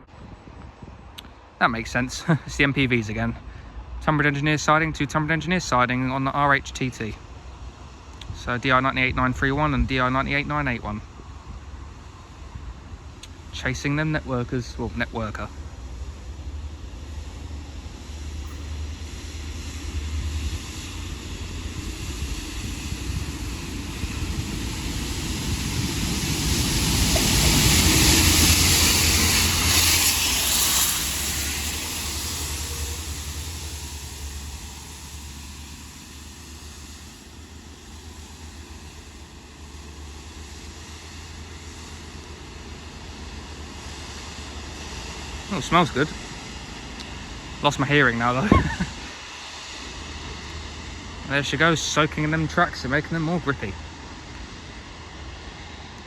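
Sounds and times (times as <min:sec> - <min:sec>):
low engine rumble: 0:00.0 - 0:56.0
water jets hissing: 0:01.4 - 0:56.0.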